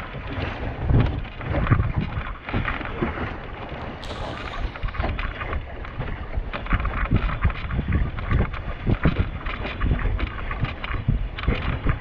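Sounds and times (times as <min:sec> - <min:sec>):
water thumping against hull: 0:00.0 - 0:12.0
wind buffeting microphone: 0:00.0 - 0:12.0.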